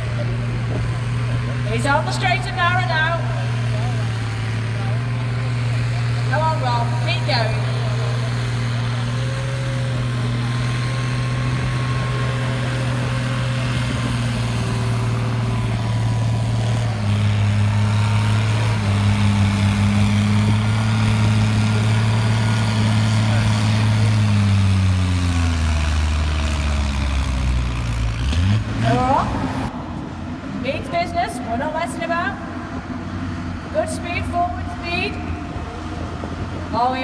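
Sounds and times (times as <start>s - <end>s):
tractor engine revving: 0.0s - 37.0s.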